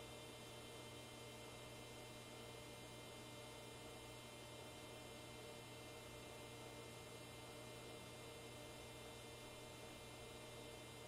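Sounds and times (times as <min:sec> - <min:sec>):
faint low hum with hiss: 0:00.0 - 0:11.0.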